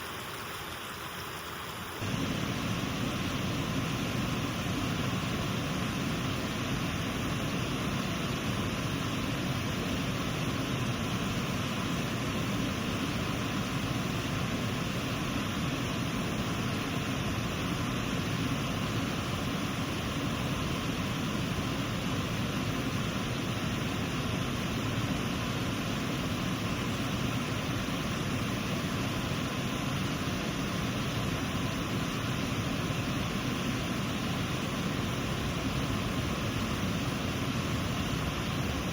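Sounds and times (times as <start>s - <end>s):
water rushing over waterfall: 0.0s - 38.9s.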